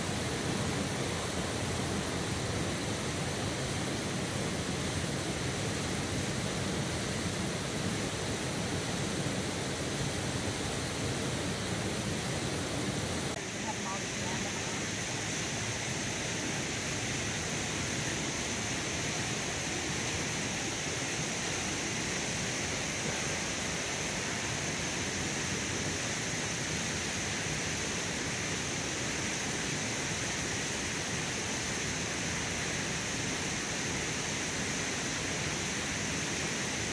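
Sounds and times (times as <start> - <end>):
creek water running: 0.0 - 36.9
high-pitched hiss: 0.0 - 36.9.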